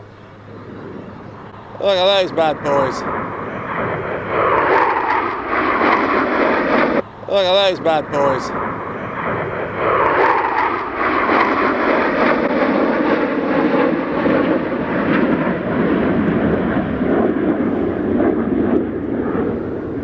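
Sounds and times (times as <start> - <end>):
jets flying past: 0.0 - 20.0.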